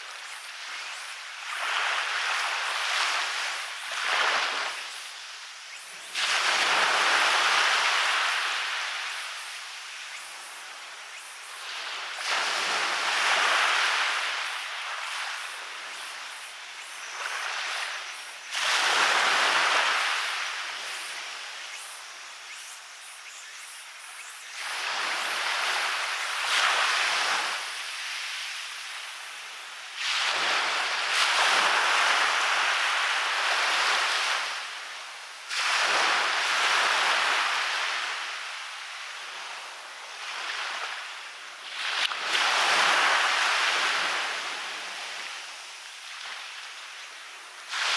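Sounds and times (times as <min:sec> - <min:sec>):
waves breaking on a beach: 0:00.0 - 0:47.9.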